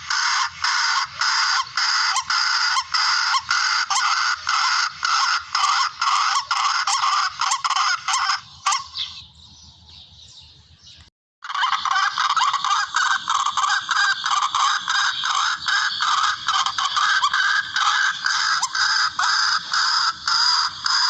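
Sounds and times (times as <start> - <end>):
recorded rail bird calls: 0.0 - 21.0.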